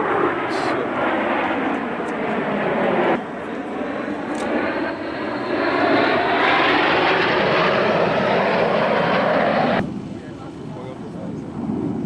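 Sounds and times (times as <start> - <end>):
aircraft engine rush: 0.0 - 12.0.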